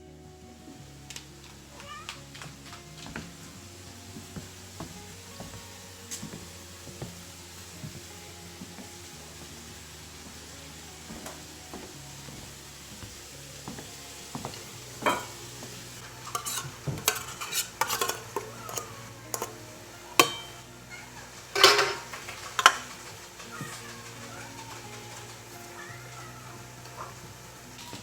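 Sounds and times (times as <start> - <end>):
small hard objects clinking: 0.8 - 28.0.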